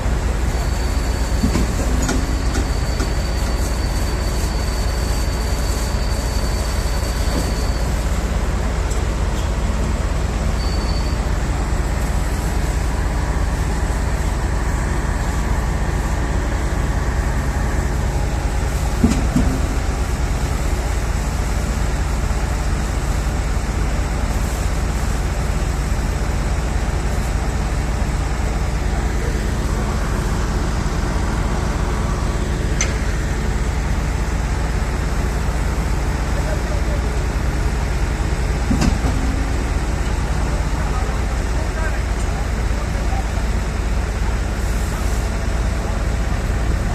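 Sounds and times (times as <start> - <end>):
truck diesel engine droning: 0.0 - 46.9.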